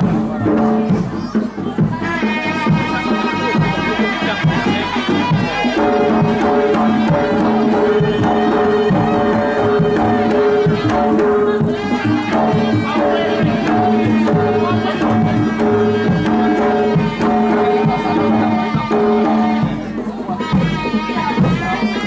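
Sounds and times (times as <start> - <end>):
hand drums beating: 0.0 - 22.0.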